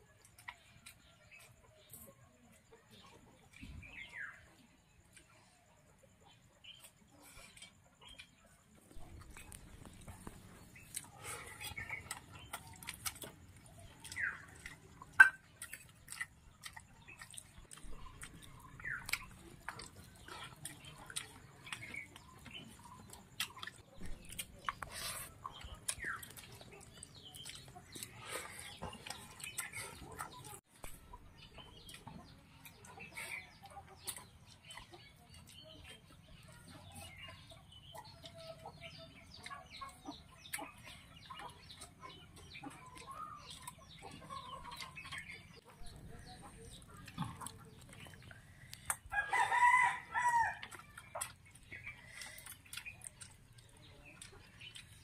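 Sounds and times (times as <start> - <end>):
chickens clucking: 0.0 - 55.0
mouth sounds eating: 0.0 - 55.0.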